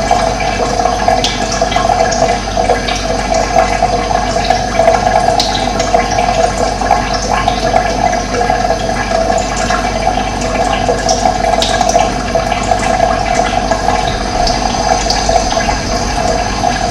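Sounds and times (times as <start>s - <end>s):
running water rushing: 0.0s - 16.9s.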